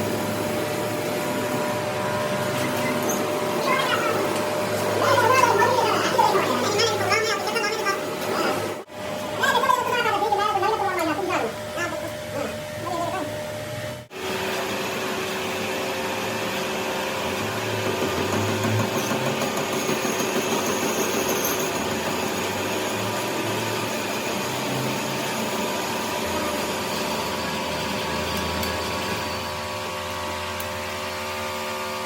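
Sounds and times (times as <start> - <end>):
workshop machine motor hum: 0.0 - 32.0.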